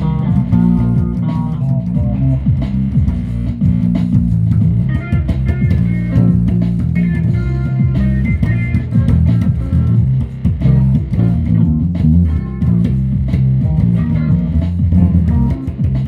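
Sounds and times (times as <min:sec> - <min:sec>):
guitar music: 0:00.0 - 0:16.0
plucked bass guitar line: 0:00.0 - 0:16.0.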